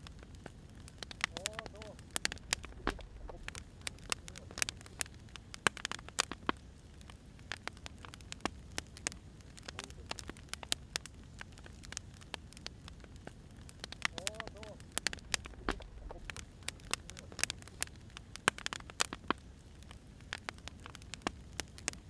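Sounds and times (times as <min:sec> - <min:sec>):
faint low rumble: 0:00.0 - 0:22.0
wood fire crackling: 0:00.0 - 0:22.0.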